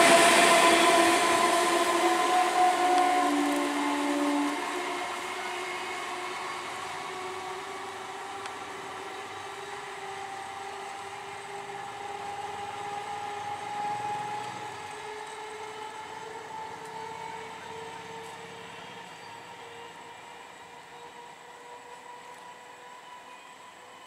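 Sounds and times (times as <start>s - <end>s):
electric train hum and whine: 0.0s - 24.0s.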